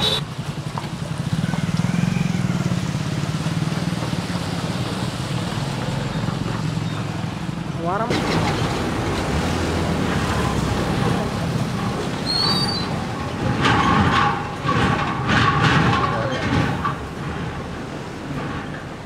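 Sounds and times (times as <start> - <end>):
truck engine running: 0.0 - 19.0
tyres splashing through water: 0.0 - 19.0.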